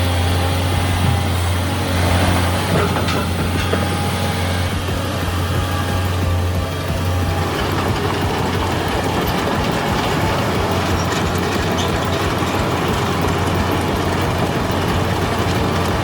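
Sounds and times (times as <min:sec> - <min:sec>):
heavy machine engine drone: 0:00.0 - 0:16.0
rapid mechanical clatter: 0:00.0 - 0:16.0.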